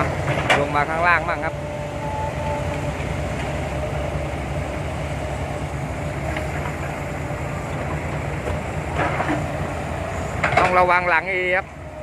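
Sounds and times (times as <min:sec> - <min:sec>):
diesel construction machinery rumble: 0:00.0 - 0:12.0.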